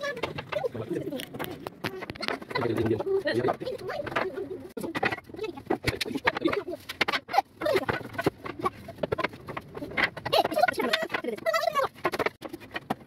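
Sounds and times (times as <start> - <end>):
wooden knocks and clicks: 0.0 - 13.0.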